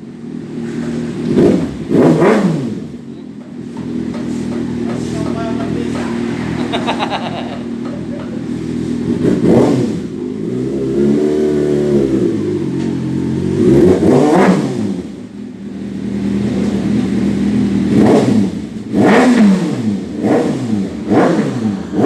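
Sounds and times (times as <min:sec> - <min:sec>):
vehicle engine revving: 0:00.1 - 0:22.0.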